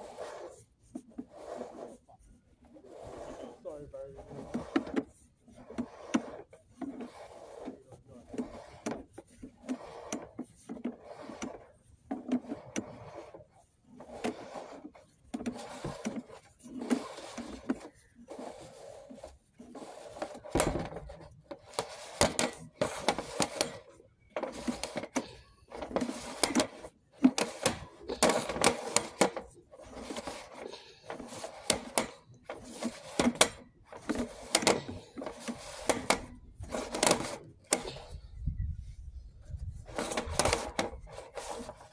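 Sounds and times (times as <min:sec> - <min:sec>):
rod rubbing inside a pipe: 0:00.0 - 0:41.9.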